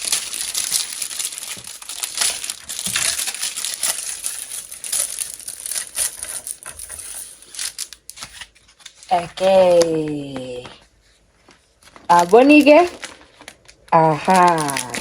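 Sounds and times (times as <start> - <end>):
packaging crinkling: 0.0 - 10.6, 11.4 - 15.0.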